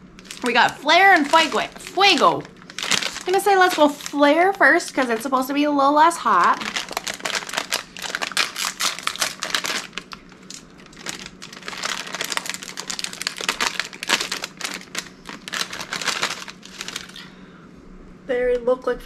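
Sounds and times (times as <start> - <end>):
plastic snack bag crinkling: 0.0 - 17.3.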